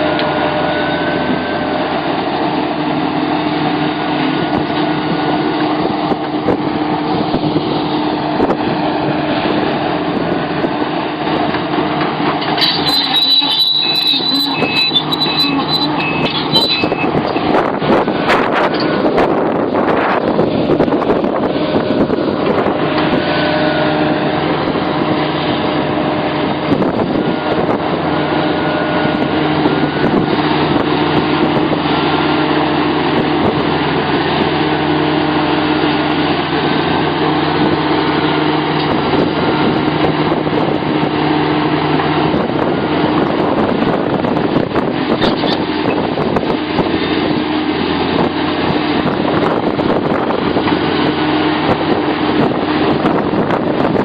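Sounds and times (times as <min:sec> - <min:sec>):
excavator diesel engine running: 0:00.0 - 0:54.0
high engine whine: 0:00.0 - 0:54.0.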